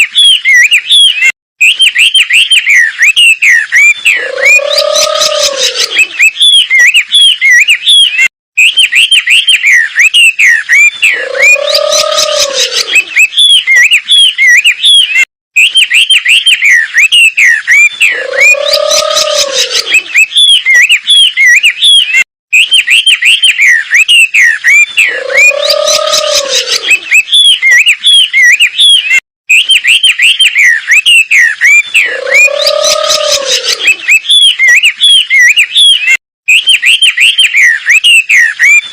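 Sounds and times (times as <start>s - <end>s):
bird chirping and chattering: 0.0s - 38.9s.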